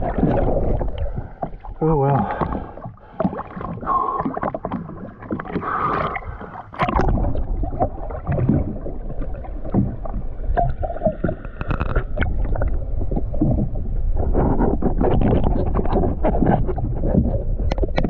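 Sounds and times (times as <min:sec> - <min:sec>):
muffled underwater rumble: 0:00.0 - 0:18.0
underwater clicks and bubbles: 0:00.0 - 0:18.0
water sloshing and splashing: 0:00.0 - 0:18.0.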